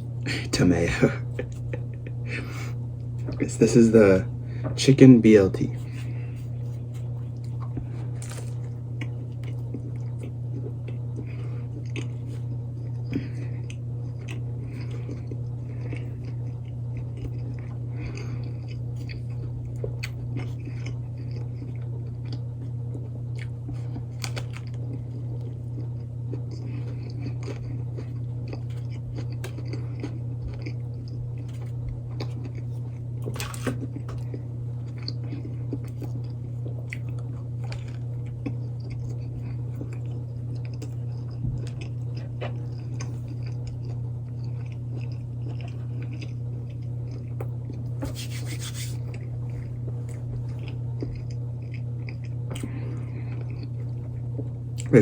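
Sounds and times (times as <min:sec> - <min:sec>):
low hum: 0:00.0 - 0:55.0
chewing and biting sandwich: 0:05.7 - 0:55.0.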